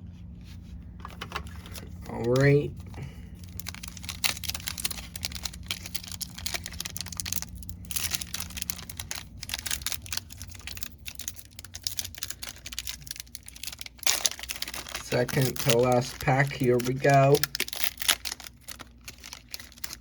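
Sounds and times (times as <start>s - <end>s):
foil wrapper crinkling: 1.0s - 20.0s.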